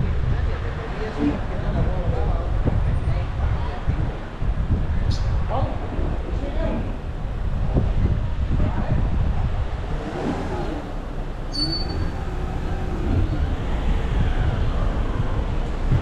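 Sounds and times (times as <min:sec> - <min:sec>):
tyre and road noise: 0:00.0 - 0:16.0.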